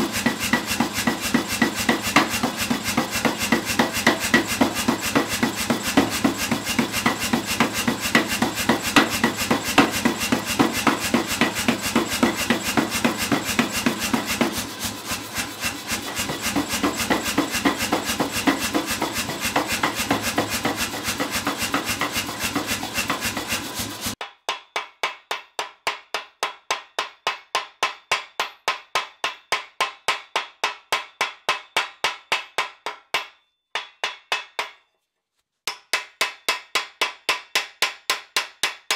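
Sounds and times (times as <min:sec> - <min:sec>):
power hammer pounding steel: 0:00.0 - 0:34.8, 0:35.7 - 0:38.9
hand hammer striking metal: 0:00.0 - 0:34.9, 0:35.7 - 0:38.9.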